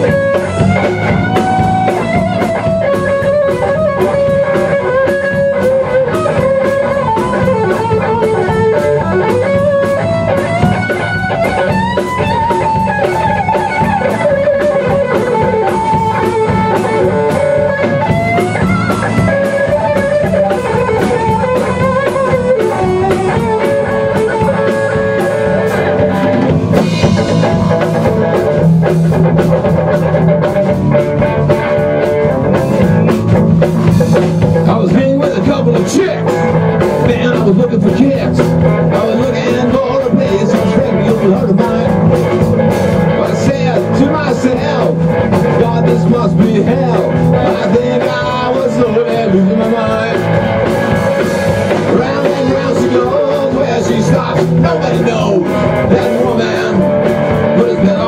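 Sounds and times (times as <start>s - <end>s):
bass guitar: 0.0s - 58.0s
drum kit with cymbals: 0.0s - 58.0s
lead electric guitar melody: 0.0s - 58.0s.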